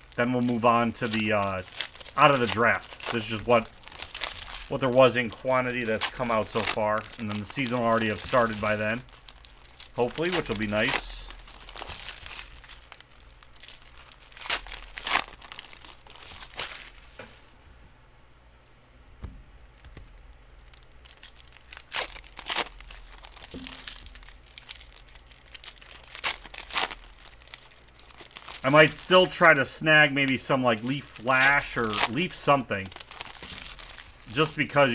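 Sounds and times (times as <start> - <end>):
plastic wrapping crinkling and tearing: 0.0 - 17.7, 19.6 - 34.9.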